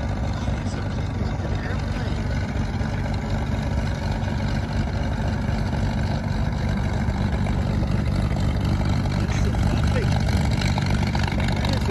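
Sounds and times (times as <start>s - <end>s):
aircraft piston engines droning: 0.0s - 11.9s.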